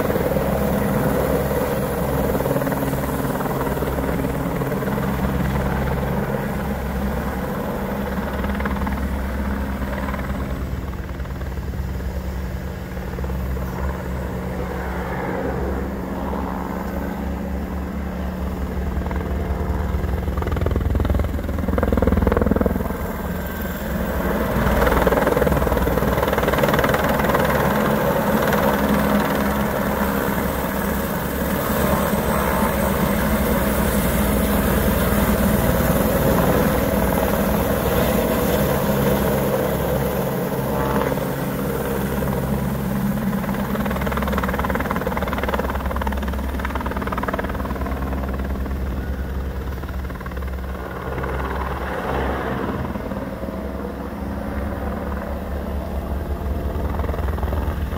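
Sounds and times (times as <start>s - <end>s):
helicopter rotor and engine: 0.0s - 57.9s.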